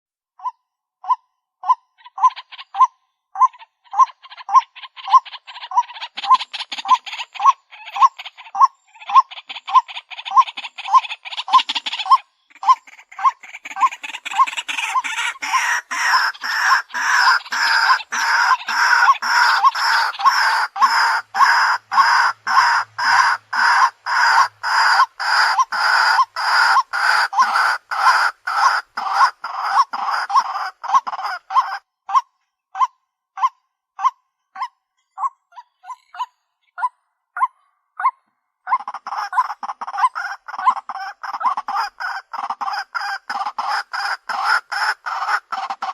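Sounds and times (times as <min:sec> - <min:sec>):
waterhen calling: 0:00.4 - 0:32.2, 0:32.8 - 0:45.9.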